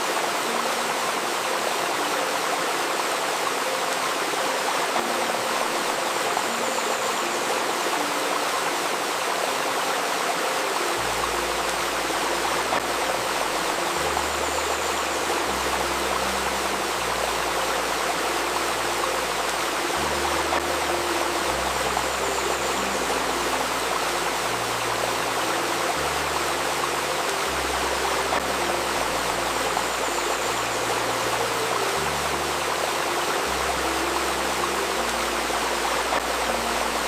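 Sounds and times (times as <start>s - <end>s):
river babbling: 0.0s - 37.0s
soft sustained tones: 0.0s - 37.0s.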